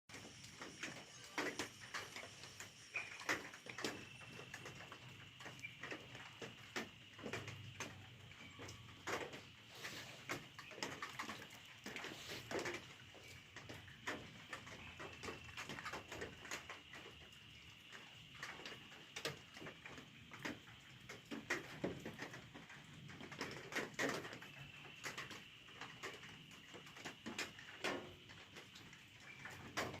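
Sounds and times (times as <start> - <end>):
animal calls and clicks: 0.1 - 30.0.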